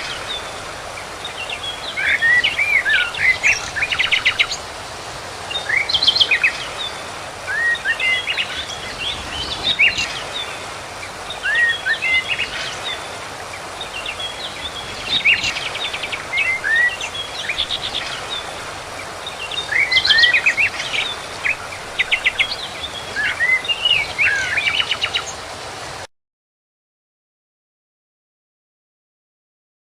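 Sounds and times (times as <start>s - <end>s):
songbird singing: 0.0s - 25.5s
background hiss: 0.0s - 26.0s.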